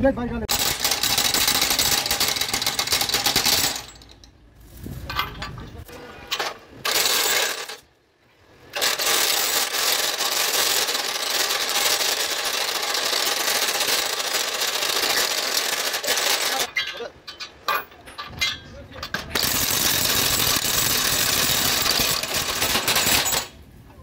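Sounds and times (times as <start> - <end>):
impact wrench metallic rattle: 0.5 - 4.4, 5.0 - 7.9, 8.7 - 23.6.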